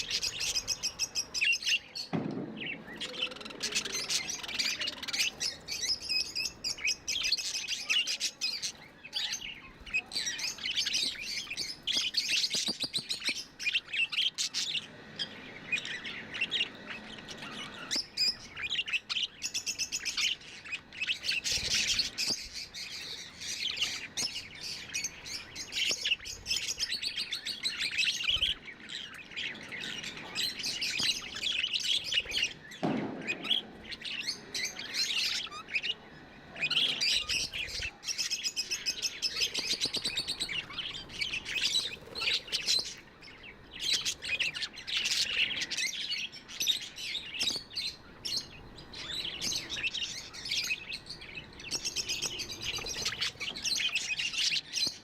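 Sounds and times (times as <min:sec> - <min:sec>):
budgerigars chirping: 0:02.6 - 0:55.0.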